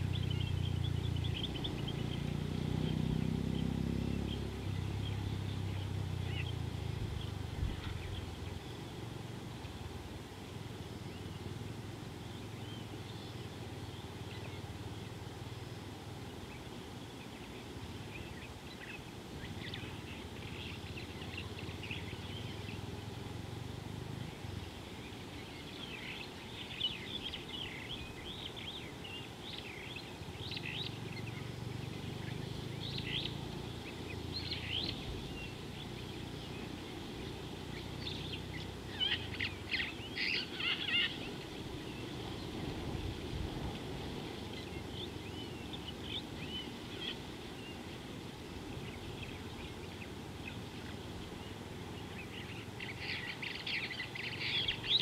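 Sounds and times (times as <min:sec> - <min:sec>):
low outdoor hum: 0:00.0 - 0:55.0
wild birds chirping: 0:00.0 - 0:55.0.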